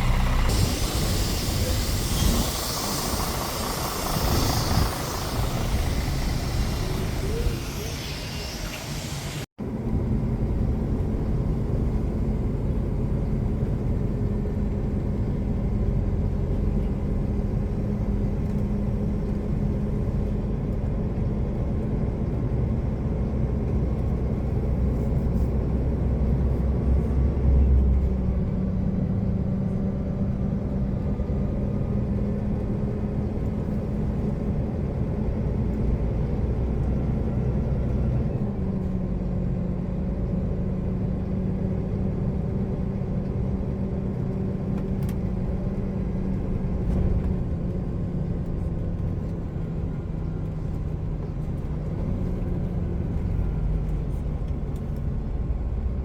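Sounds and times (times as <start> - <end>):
road noise: 0.0 - 56.0
truck diesel engine: 0.0 - 56.0.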